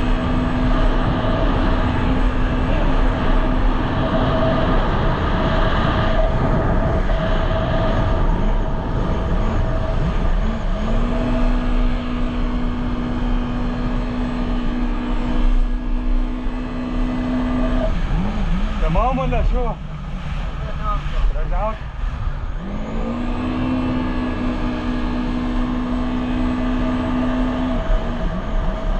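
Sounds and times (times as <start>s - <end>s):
jet ski engine running: 0.0s - 28.9s
rushing wind noise: 0.0s - 28.9s.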